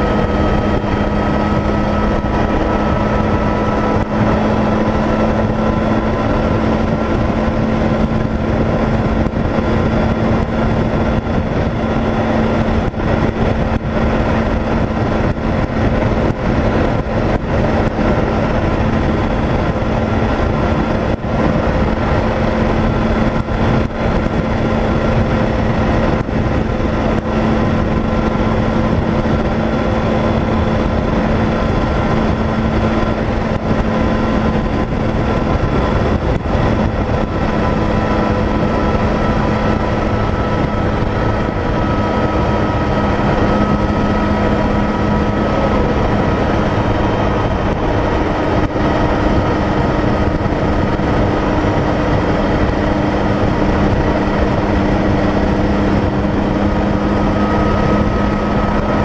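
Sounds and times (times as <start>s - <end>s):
motorcycle engine hum: 0.0s - 59.0s
wind rush on microphone: 0.0s - 59.0s.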